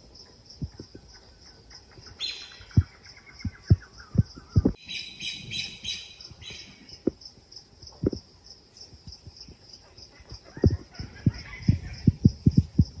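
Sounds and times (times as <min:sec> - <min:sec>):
birds chirping: 0:00.0 - 0:13.0
pulsing insect trill: 0:00.0 - 0:13.0.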